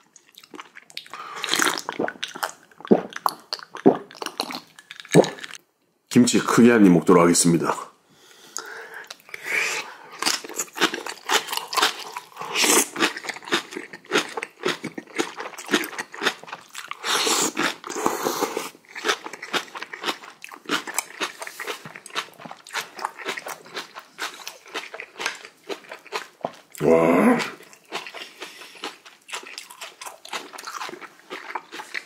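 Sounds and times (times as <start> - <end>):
person chewing crunchy food: 0.0 - 5.6, 10.1 - 32.0.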